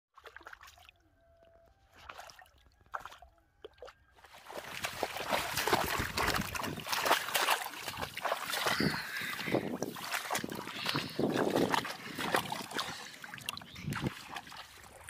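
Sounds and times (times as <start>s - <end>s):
wading through muddy water: 0.1s - 15.0s.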